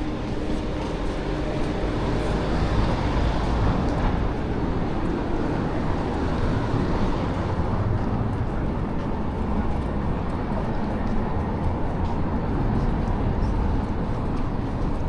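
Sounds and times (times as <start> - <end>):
city vehicle rumble: 0.0 - 15.0.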